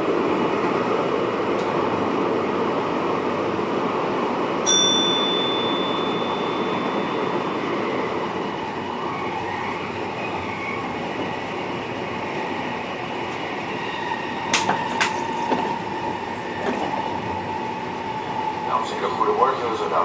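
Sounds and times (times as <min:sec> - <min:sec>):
electric train rumble and hiss: 0:00.0 - 0:20.0.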